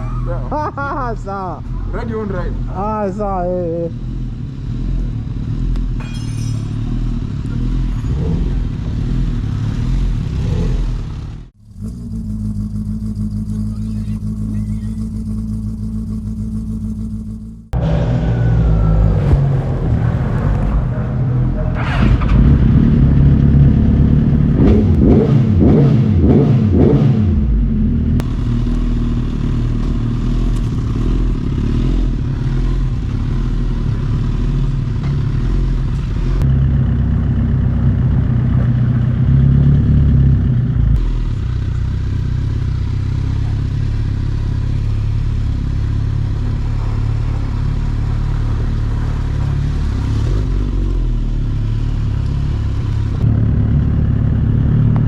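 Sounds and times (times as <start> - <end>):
motorcycle engines at speed: 0.0 - 55.0.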